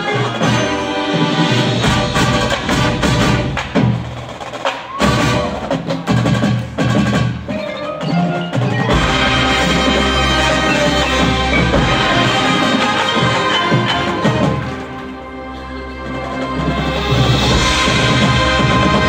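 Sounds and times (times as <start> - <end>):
marching band playing: 0.0 - 19.0.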